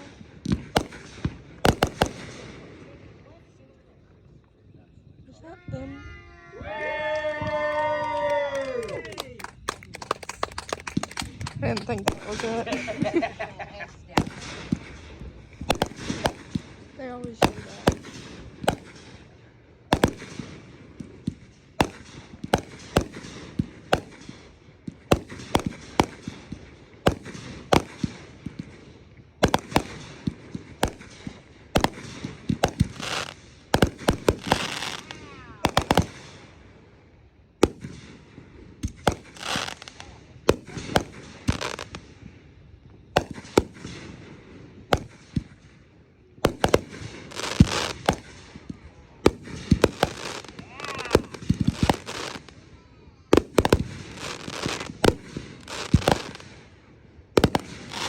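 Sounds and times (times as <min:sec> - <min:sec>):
fireworks bangs: 0:00.0 - 0:58.0
fireworks hissing and crackling: 0:00.0 - 0:58.0.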